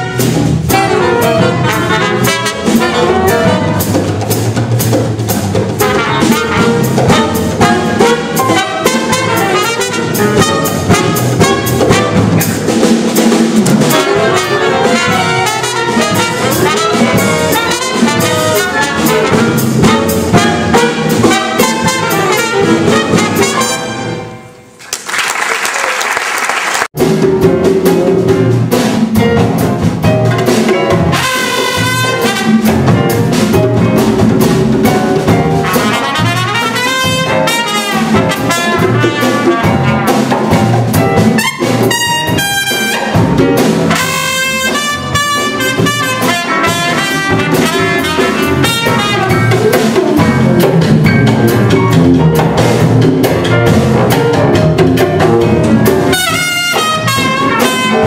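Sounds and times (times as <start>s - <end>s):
trumpet: 0.0s - 4.3s, 5.8s - 12.7s, 13.7s - 24.8s, 30.2s - 34.0s, 35.4s - 50.8s, 51.4s - 58.0s
jazz big band playing: 0.0s - 25.5s, 26.5s - 58.0s.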